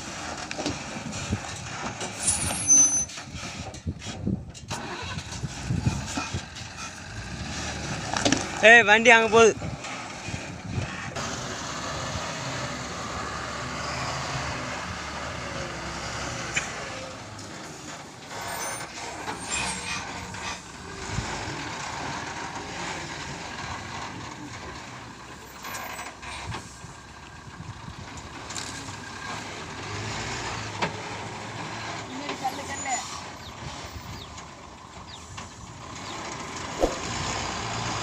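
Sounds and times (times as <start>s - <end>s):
diesel engines running: 0.0s - 38.0s.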